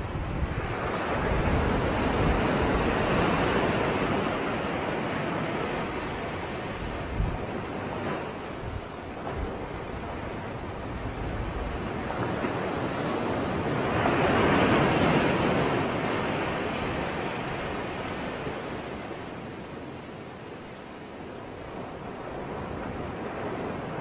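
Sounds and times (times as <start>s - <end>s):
sea waves breaking on shore: 0.0s - 24.0s.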